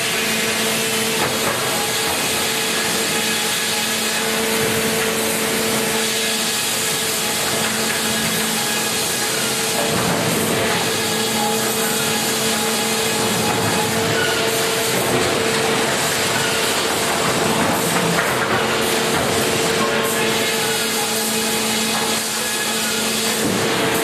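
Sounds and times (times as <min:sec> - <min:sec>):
motors and roller conveyors humming: 0:00.0 - 0:24.0
saw cutting timber: 0:00.0 - 0:24.0.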